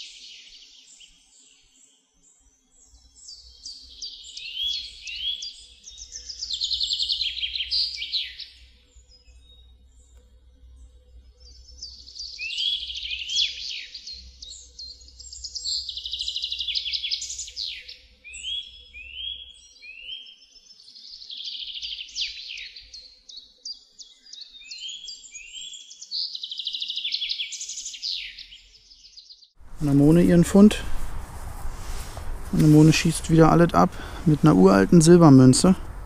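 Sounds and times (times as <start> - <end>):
songbird trilling: 3.2 - 9.6, 11.4 - 23.1, 24.0 - 36.0.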